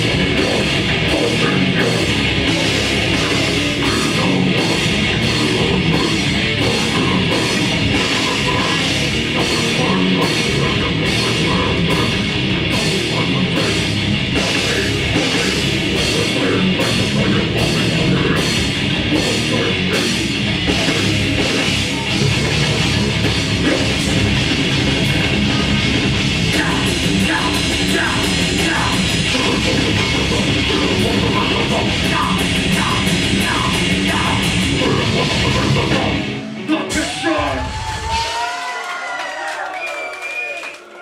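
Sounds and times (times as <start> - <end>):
distorted electric guitars: 0.0 - 38.3
drum kit: 0.0 - 38.4
bass guitar: 0.0 - 38.5.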